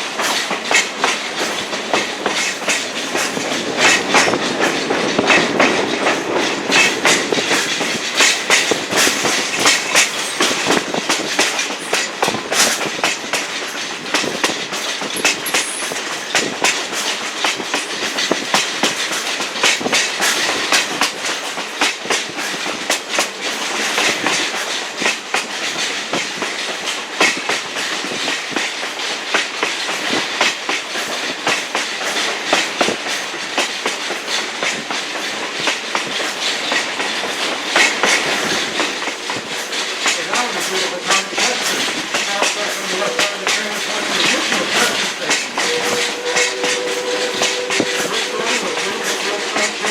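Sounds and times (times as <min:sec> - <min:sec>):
train car rumble: 0:00.0 - 0:49.9
wheels clicking over rail joints: 0:00.0 - 0:49.9.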